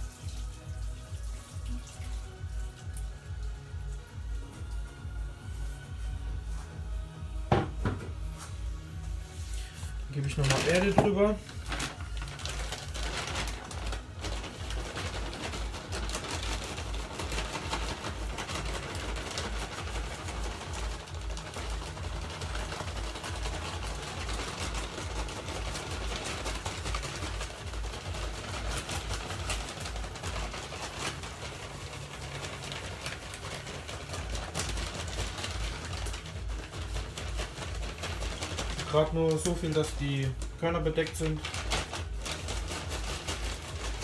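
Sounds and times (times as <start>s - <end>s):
soil trickling and rustling: 0.0s - 6.9s, 8.3s - 44.0s
plastic bag crinkling: 1.4s - 44.0s.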